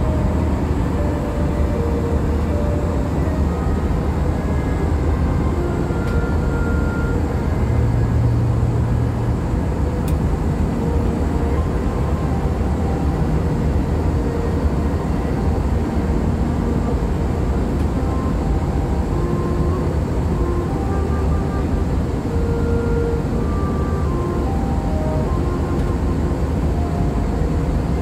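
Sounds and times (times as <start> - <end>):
airliner cabin roar: 0.0 - 28.0.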